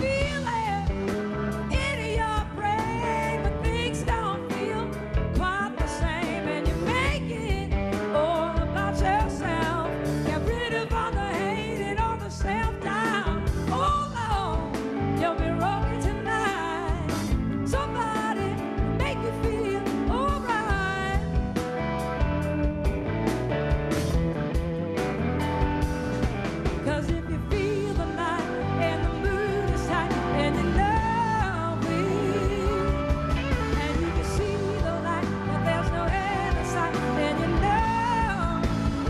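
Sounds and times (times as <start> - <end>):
person singing lead vocal: 0.0 - 21.5, 26.8 - 39.0
blues-rock band playing: 0.0 - 39.0.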